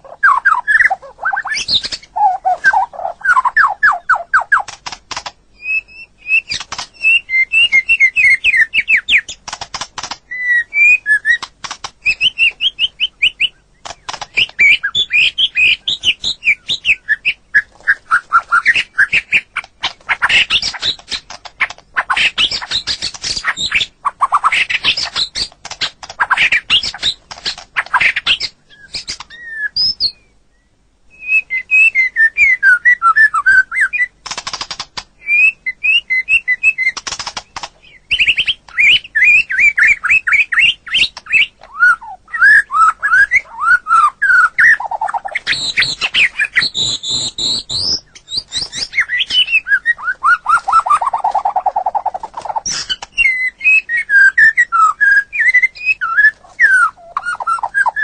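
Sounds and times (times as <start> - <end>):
bird singing whistled notes: 0.0 - 4.8, 5.5 - 9.4, 10.3 - 21.3, 27.9 - 34.2, 35.2 - 58.0
harsh rattling bird chatter: 0.0 - 30.1, 33.8 - 35.2, 36.2 - 54.2.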